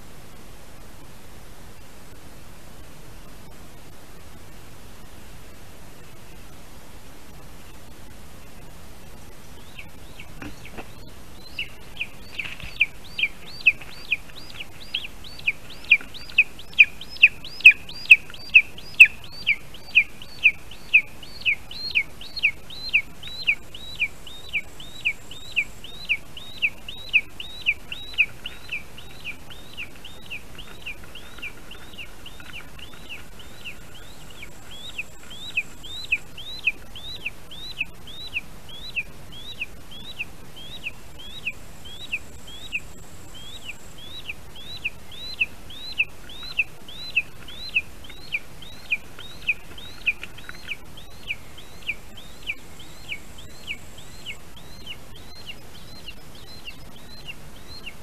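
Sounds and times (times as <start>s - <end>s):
eagle yelping calls: 9.7s - 58.0s.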